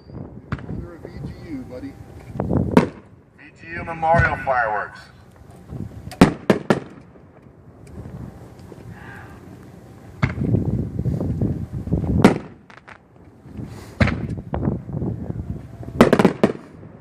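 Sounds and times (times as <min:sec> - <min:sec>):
fireworks bangs: 0:00.2 - 0:08.8, 0:11.9 - 0:17.0.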